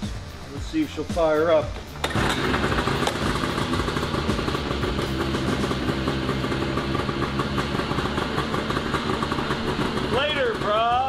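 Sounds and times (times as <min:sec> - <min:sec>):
snowmobile engine idling: 0:02.0 - 0:11.0.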